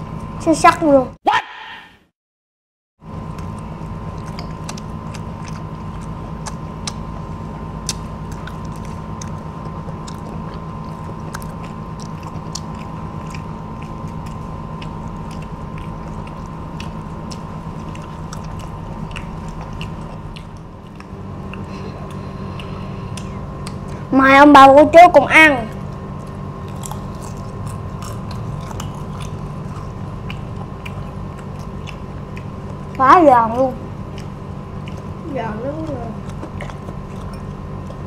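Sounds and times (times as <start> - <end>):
steady background hum: 0.0 - 2.0, 3.0 - 38.0
children chewing crunchy food: 3.2 - 24.6, 25.6 - 38.0.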